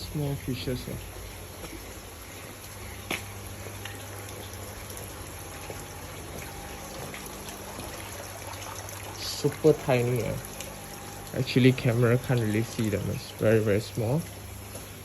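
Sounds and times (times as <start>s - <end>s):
low steady hum: 0.0s - 15.0s
water trickling in fish tanks: 0.0s - 15.0s.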